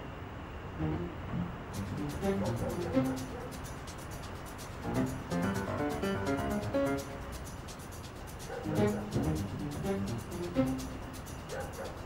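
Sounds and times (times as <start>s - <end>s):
low held music notes: 0.7s - 12.0s
fast ticking beat: 0.8s - 12.0s.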